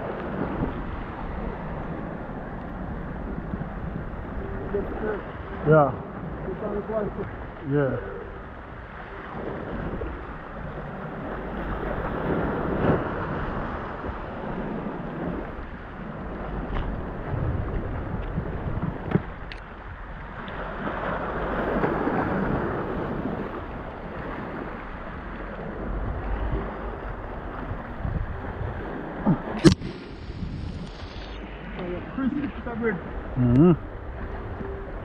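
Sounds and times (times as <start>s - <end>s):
sea waves washing against rocks: 0.0s - 8.0s, 8.8s - 33.4s
wind buffeting microphone: 0.0s - 35.0s.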